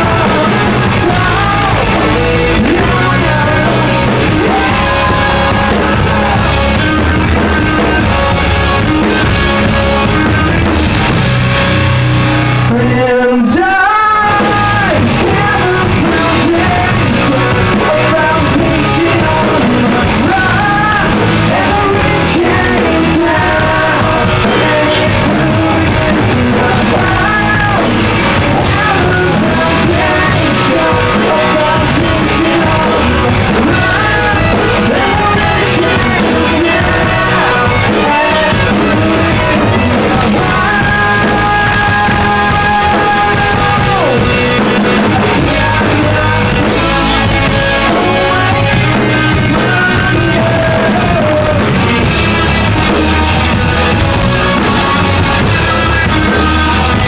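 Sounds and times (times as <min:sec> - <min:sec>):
live rock band: 0:00.0 - 0:57.0
man singing: 0:00.0 - 0:57.0.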